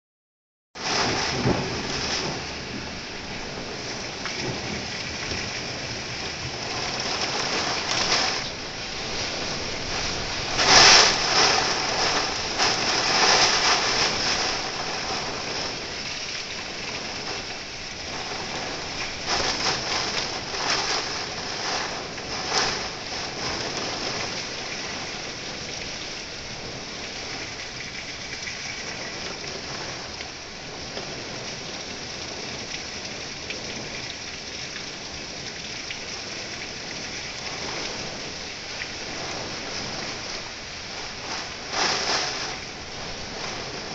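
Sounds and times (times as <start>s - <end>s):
heavy rain pouring: 0.8s - 43.9s
wind gusts: 0.8s - 43.9s.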